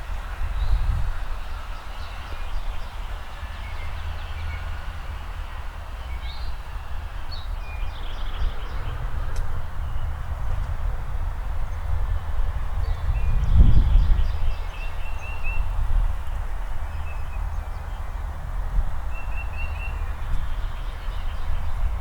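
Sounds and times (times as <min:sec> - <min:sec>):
songbirds chirping: 0:00.3 - 0:22.0.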